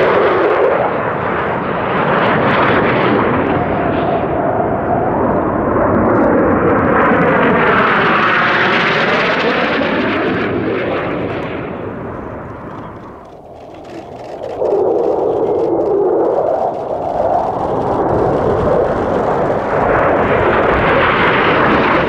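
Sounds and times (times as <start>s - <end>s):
another jet: 0.0s - 22.0s
fighter jet passing low: 0.0s - 22.0s.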